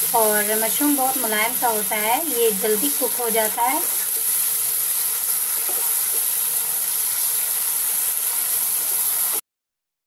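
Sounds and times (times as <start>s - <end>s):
mushrooms sizzling in butter: 0.0s - 9.4s.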